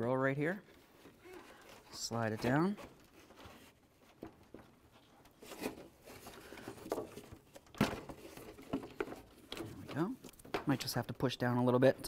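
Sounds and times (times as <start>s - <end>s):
plastic knocking and scraping: 1.0s - 10.9s.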